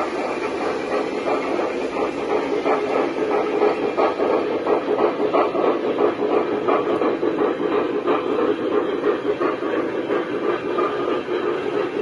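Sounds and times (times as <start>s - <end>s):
model train wheels rumbling on rails: 0.0s - 12.0s.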